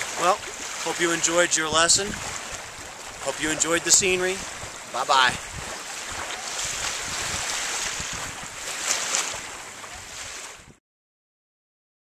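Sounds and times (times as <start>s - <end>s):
wind: 0.0s - 10.8s
wind buffeting on microphone: 0.0s - 10.8s.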